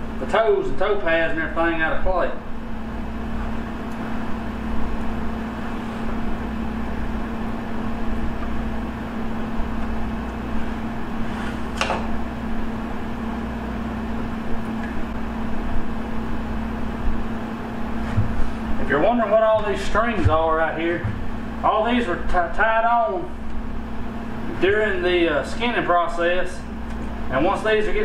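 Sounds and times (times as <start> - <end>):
fan humming: 0.0 - 28.0.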